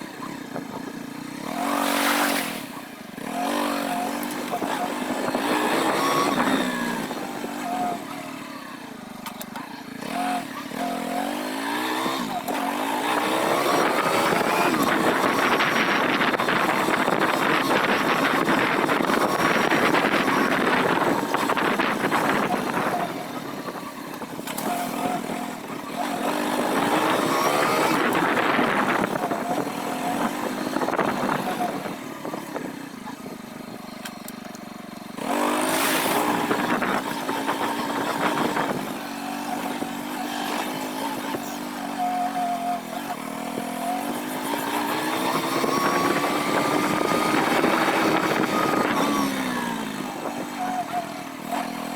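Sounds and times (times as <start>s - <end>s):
small motor engine revving: 0.0s - 51.9s.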